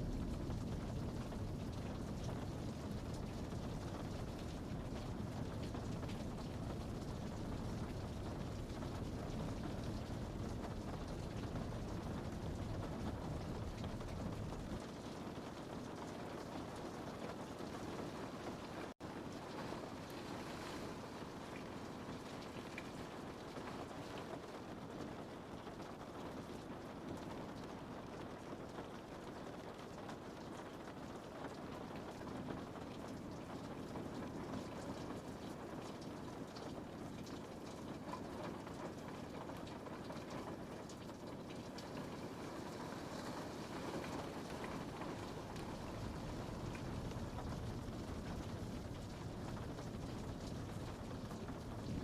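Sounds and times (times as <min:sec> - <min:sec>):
rain pattering on a window: 0:00.0 - 0:52.0.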